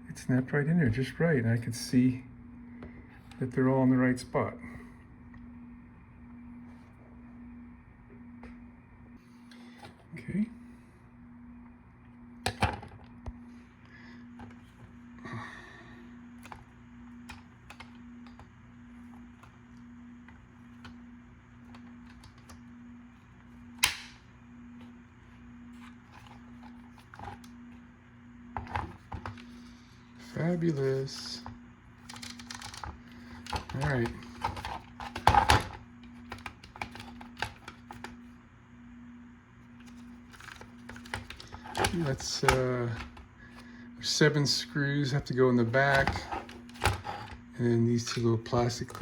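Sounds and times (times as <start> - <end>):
low hum: 0.9 - 49.0.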